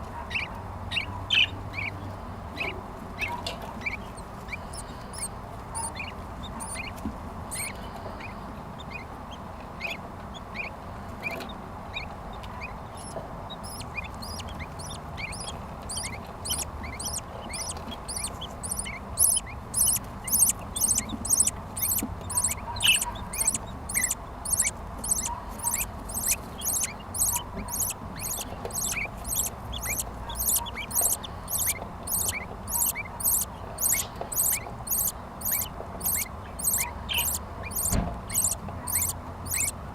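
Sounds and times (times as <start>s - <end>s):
bird chicks begging chirps: 0.2s - 39.8s.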